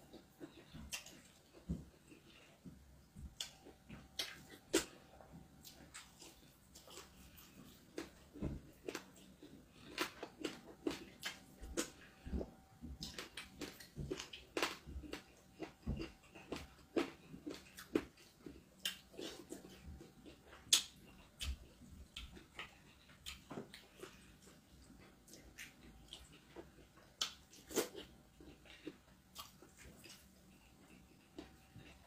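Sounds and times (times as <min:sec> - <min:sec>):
wet chewing: 0:05.6 - 0:32.0.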